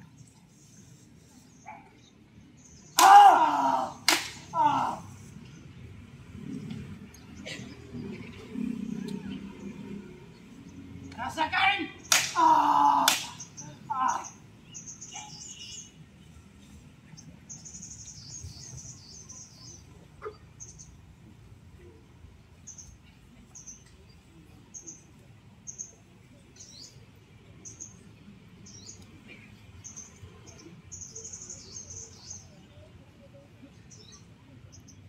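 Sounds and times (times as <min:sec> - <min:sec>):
low background noise: 0:00.0 - 0:35.0.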